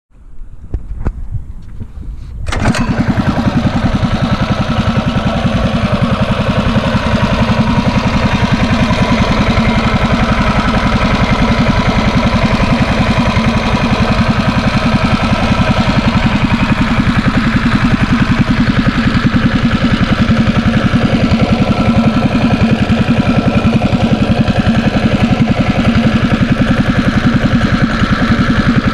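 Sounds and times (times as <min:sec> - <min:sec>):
small engine starting and idling: 0:02.4 - 0:28.9.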